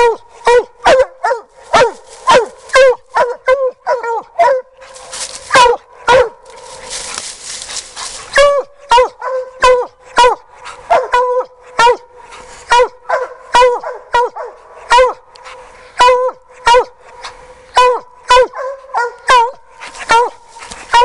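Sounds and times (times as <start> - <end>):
hound barking: 0.0 - 21.0.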